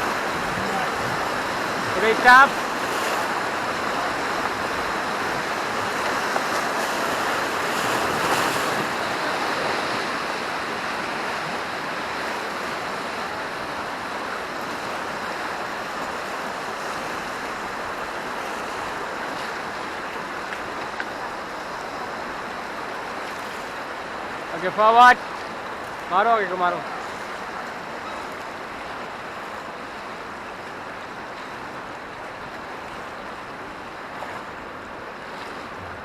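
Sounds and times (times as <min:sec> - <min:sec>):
river rapids rushing: 0:00.0 - 0:36.0.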